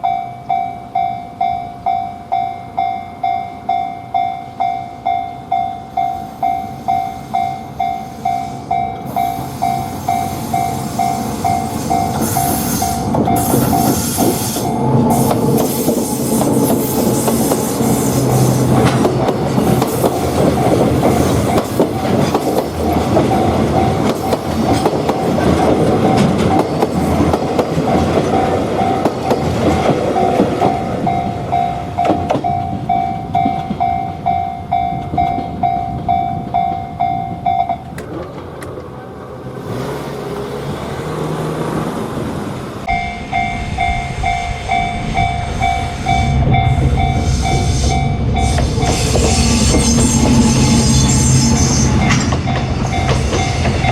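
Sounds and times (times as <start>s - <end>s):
level-crossing alarm bell ringing: 0.0s - 38.0s, 42.8s - 53.9s
train passing with wheel clatter: 0.0s - 53.9s.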